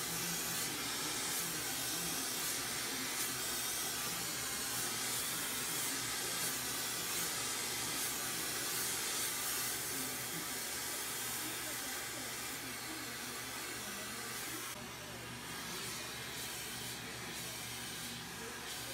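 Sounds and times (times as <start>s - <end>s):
torch flame hissing: 0.0s - 18.9s.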